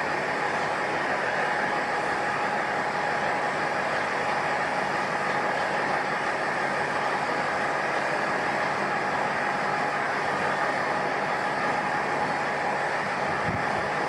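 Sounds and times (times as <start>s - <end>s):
diesel railcar idling: 0.0s - 14.0s
faint steady whine: 0.0s - 14.0s.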